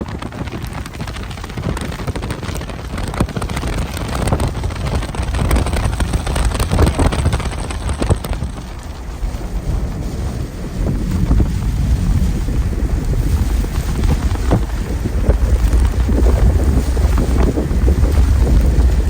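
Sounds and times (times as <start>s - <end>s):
heavy rain: 0.0s - 19.0s
rain drops clicking: 0.0s - 19.0s
wind buffeting microphone: 0.0s - 19.0s.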